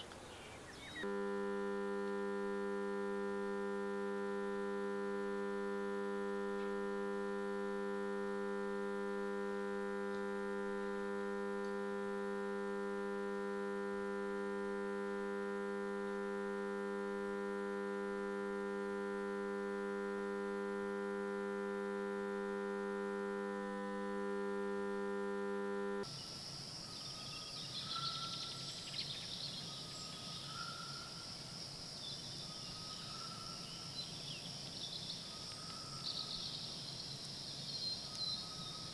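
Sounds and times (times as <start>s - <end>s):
electrical hum: 0.0s - 38.9s
high insect drone: 0.8s - 38.9s.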